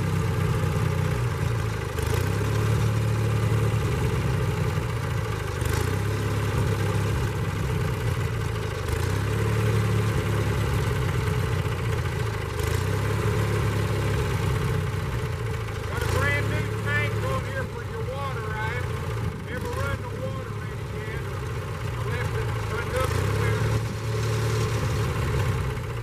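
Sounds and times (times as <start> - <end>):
sawmill engine running: 0.0 - 26.0.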